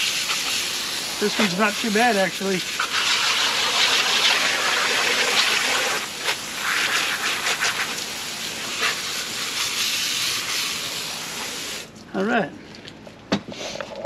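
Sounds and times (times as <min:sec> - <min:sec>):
water spray hissing: 0:00.0 - 0:11.9.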